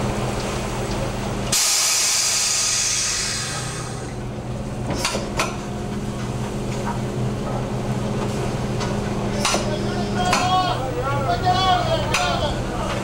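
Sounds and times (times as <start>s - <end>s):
boat machinery humming: 0.0s - 13.0s.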